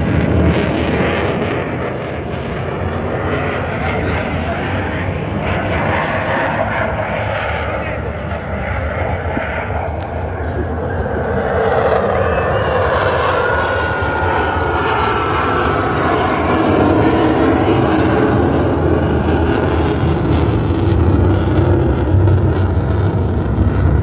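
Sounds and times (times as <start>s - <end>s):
aircraft engine roar: 0.0s - 24.0s.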